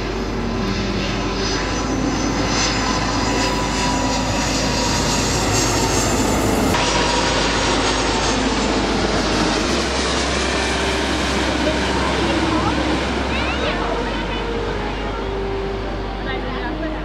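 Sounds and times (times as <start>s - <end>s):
jet engines rumbling and whining: 0.0s - 17.0s.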